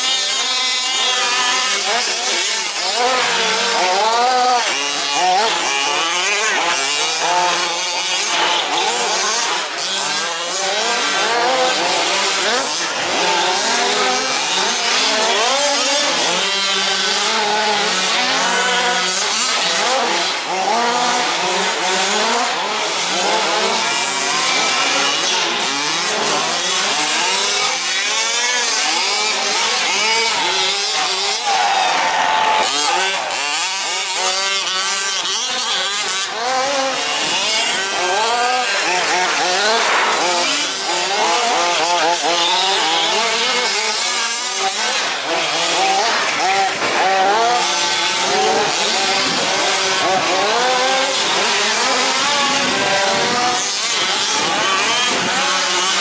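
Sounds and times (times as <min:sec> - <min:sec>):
rc truck engines revving: 0:00.0 - 0:56.0.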